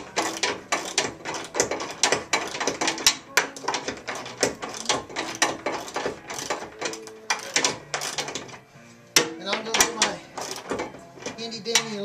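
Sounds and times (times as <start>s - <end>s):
ratchet wrench clicking: 0.0s - 8.6s, 9.7s - 12.0s.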